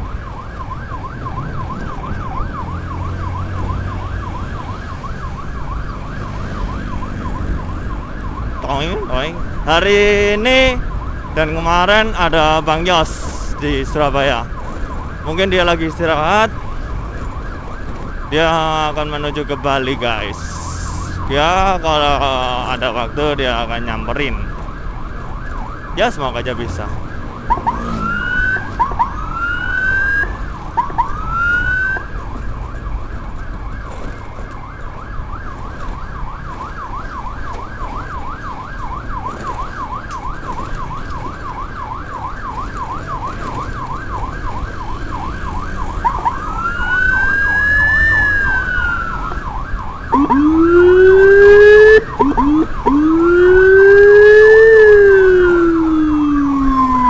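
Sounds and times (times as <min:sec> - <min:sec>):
electronic siren cycling tones: 0:00.0 - 0:57.0
lower-pitched siren wail: 0:00.0 - 0:57.0.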